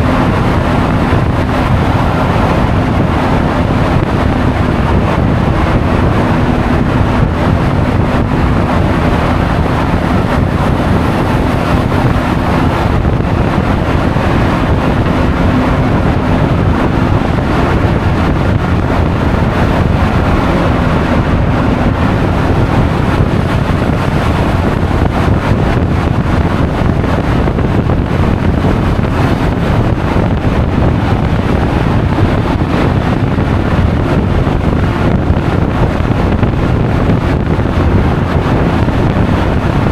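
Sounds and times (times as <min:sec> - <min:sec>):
scooter engine droning: 0:00.0 - 0:39.9
wind buffeting microphone: 0:00.0 - 0:39.9.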